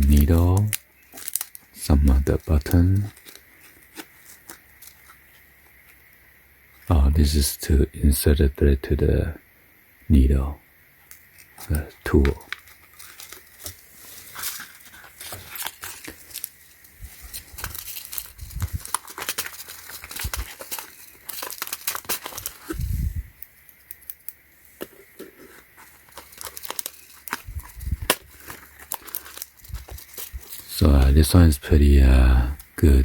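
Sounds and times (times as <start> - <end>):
packaging crinkling: 0.0 - 6.0, 11.1 - 31.6.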